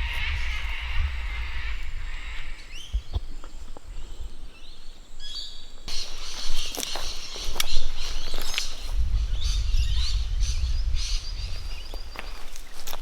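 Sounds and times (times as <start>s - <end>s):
rustling through dry vegetation: 0.0s - 13.0s
small birds chirping: 0.0s - 13.0s.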